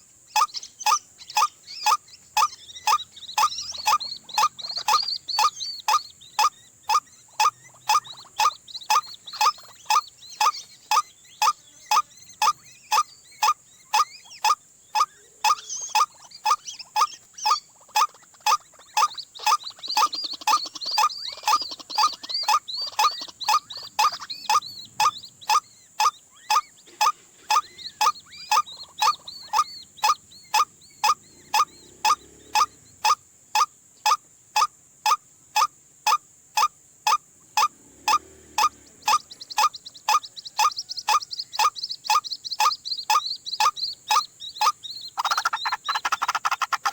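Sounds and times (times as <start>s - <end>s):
faint chirping: 0.0s - 46.9s
waterhen croaking call: 0.0s - 46.9s.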